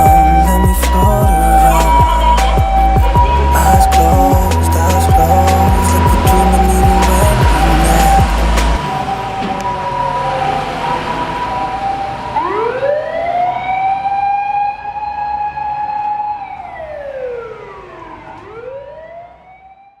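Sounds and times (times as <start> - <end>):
ambulance siren: 0.0 - 20.0.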